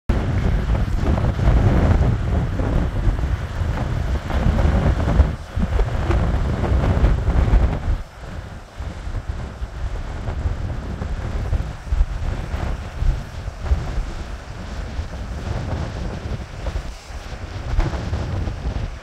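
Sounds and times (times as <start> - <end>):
rough sea washing against rocks: 0.1 - 19.0
wind buffeting microphone: 0.1 - 19.0.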